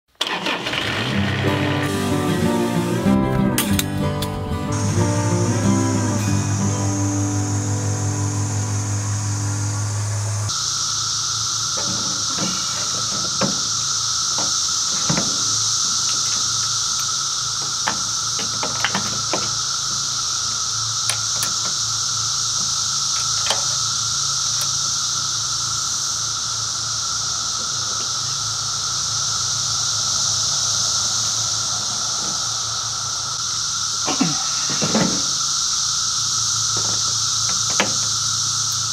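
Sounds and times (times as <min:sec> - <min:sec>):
steady high hiss: 0:00.1 - 0:38.9.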